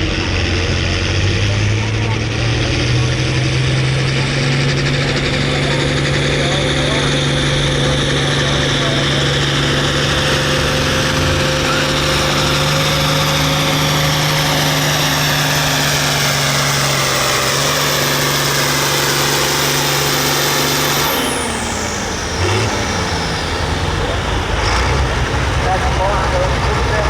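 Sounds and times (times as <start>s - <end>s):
diesel tractor engine under load: 0.0s - 27.0s
high turbo whine: 0.0s - 27.0s.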